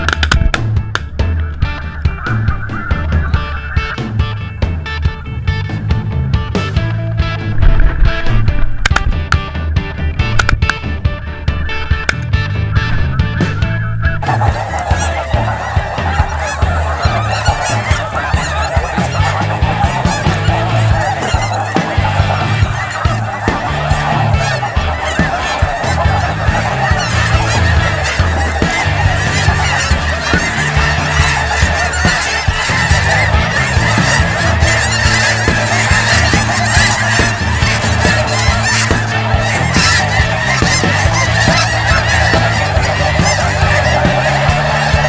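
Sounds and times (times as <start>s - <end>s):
geese honking: 0.0s - 45.0s.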